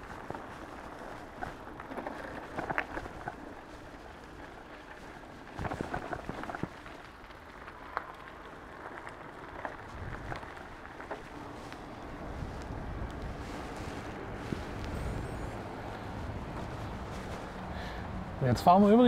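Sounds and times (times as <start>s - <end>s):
low wind rumble on microphone: 0.0s - 19.0s
rush of tyres and air: 0.0s - 19.0s.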